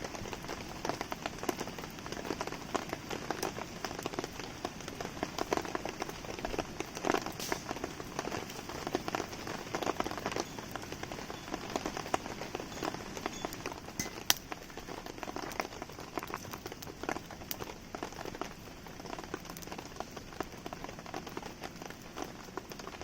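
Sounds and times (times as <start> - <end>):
campfire crackling: 0.0 - 23.0
fire snapping: 0.0 - 23.0
steady rain patter: 0.0 - 23.0.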